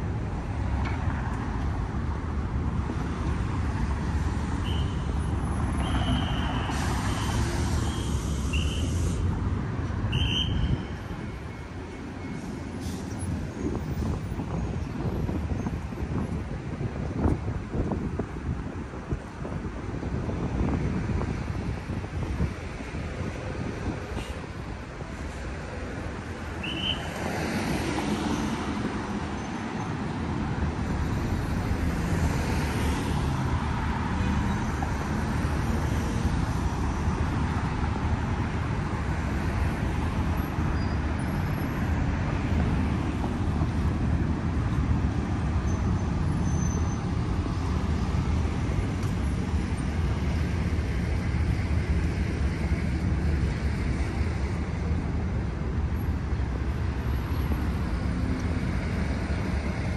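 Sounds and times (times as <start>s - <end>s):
low road rumble: 0.0s - 59.9s.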